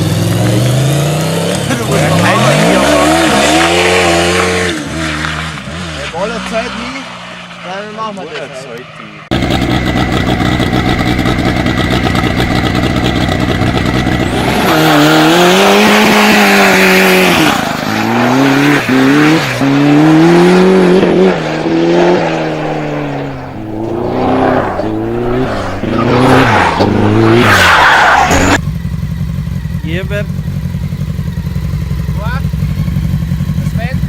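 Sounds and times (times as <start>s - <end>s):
go-kart engine revving: 0.0s - 6.9s, 9.3s - 34.0s.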